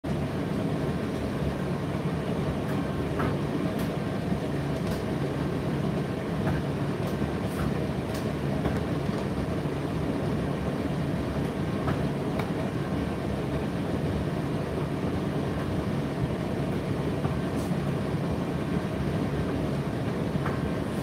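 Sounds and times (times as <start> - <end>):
tumble dryer humming: 0.0 - 21.0.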